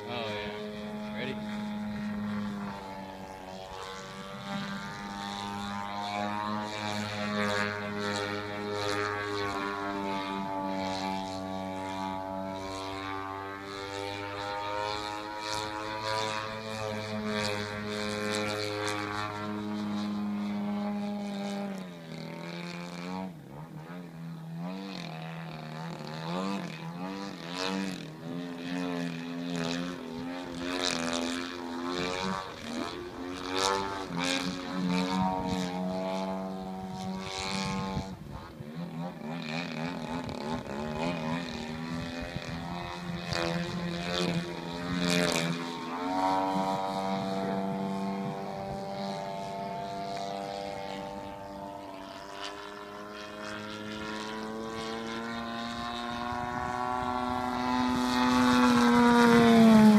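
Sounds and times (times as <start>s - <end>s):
model plane engine drone: 0.0s - 59.9s.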